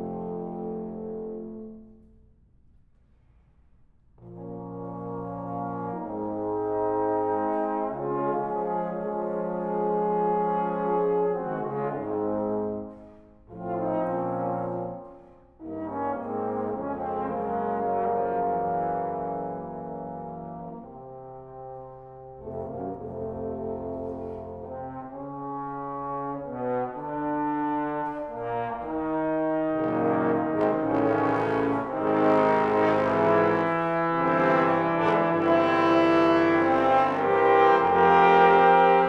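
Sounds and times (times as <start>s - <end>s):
trombone ensemble playing chords: 0.0s - 1.9s, 4.2s - 39.0s.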